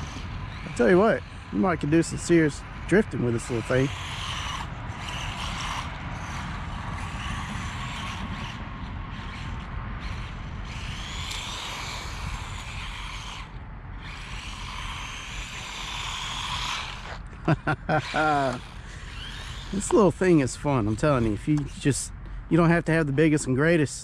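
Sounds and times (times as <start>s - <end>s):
small electric motor whining: 0.0s - 22.1s
steady low rumble: 0.0s - 24.0s.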